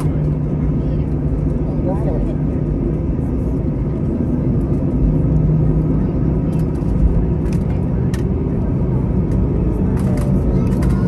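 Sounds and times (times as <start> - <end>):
aircraft cabin rumble and hum: 0.0 - 11.0.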